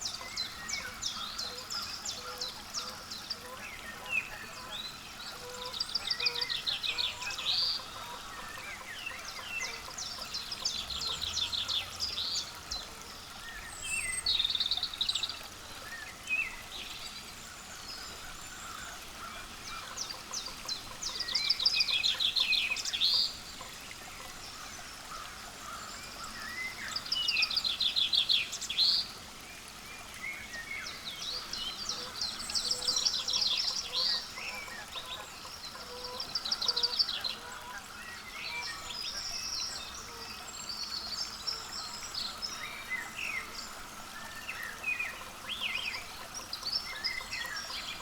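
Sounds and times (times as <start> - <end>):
songbirds singing: 0.0 - 48.0.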